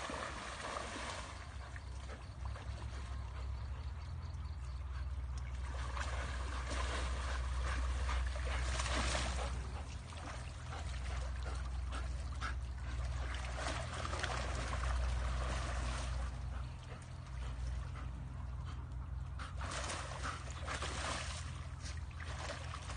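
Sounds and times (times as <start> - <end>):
water splashing and trickling: 0.0 - 22.9.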